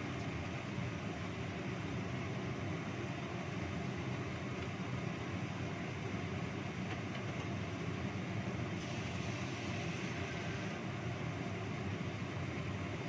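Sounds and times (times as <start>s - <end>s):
gas stove burner rumbling: 0.0s - 13.0s.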